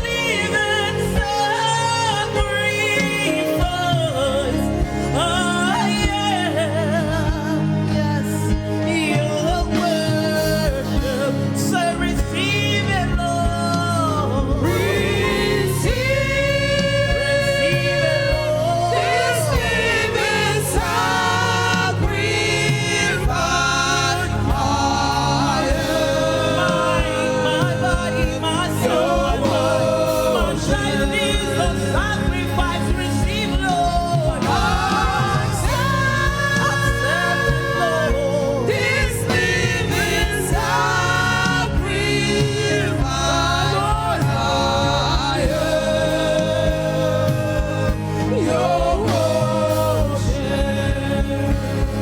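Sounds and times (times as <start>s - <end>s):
band playing a steady beat: 0.0s - 52.0s
voices singing gospel: 0.0s - 52.0s.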